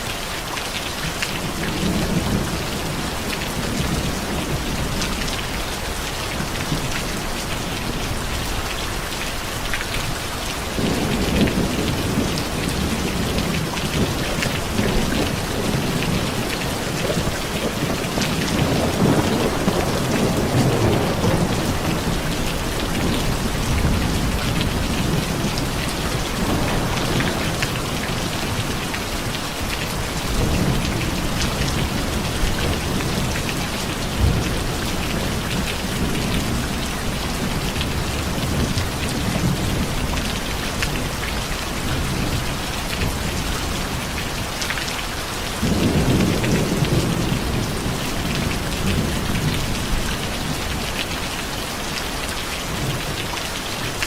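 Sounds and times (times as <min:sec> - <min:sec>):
steady rain falling: 0:00.0 - 0:54.0
rolling thunder rumbles: 0:01.4 - 0:54.0.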